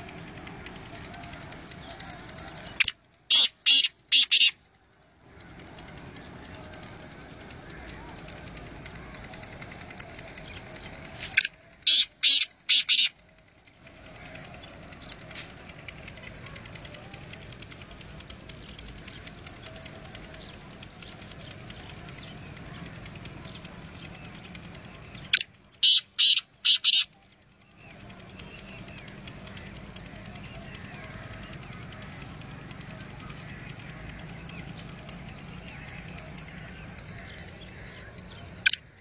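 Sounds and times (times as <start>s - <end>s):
bird calling with rasping notes: 0.0s - 39.0s.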